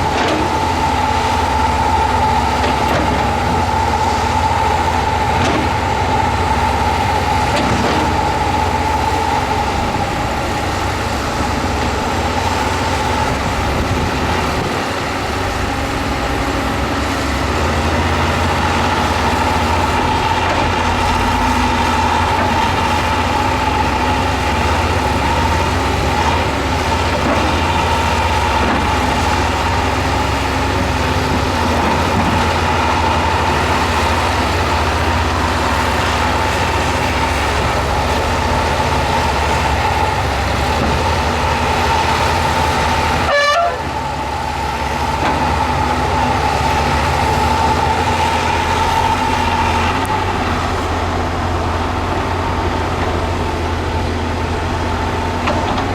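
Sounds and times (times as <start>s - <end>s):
constant high whine: 0.0s - 55.9s
heavy machinery diesel engine: 0.0s - 55.9s.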